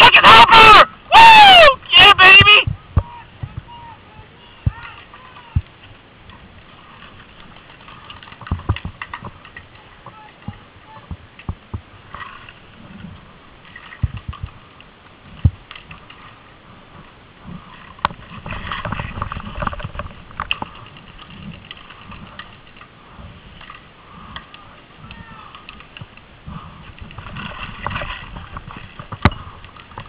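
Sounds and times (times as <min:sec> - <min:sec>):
rumbling: 0:00.0 - 0:30.0.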